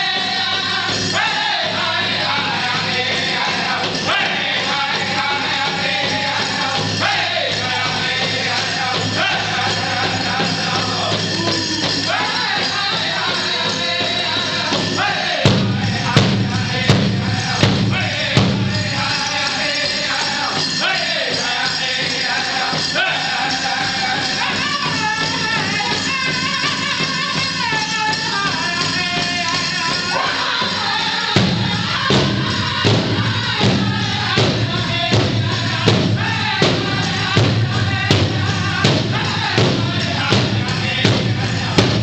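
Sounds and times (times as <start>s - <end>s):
big drum beating: 0.0s - 42.0s
group voices singing: 0.0s - 42.0s.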